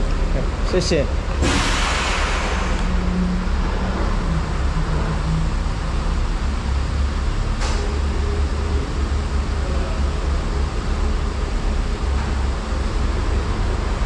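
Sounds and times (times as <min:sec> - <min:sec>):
engine idling rumble: 0:00.0 - 0:14.0.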